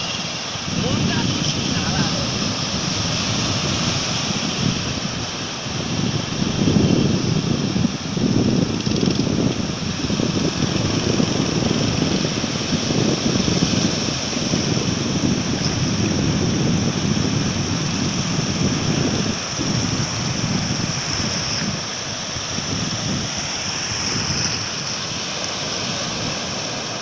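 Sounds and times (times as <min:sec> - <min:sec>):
surf breaking on sand: 0:00.0 - 0:27.0
wind buffeting microphone: 0:00.0 - 0:27.0.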